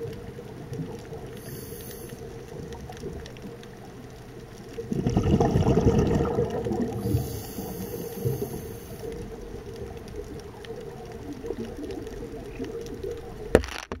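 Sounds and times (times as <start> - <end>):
underwater exhaled bubbles rumbling: 0.0 - 13.6.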